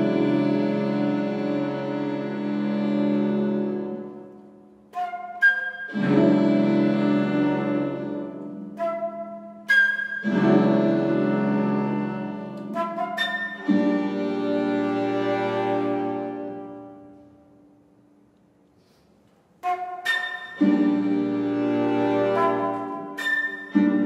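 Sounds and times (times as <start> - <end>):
chamber ensemble playing: 0.0 - 17.4, 19.6 - 24.0.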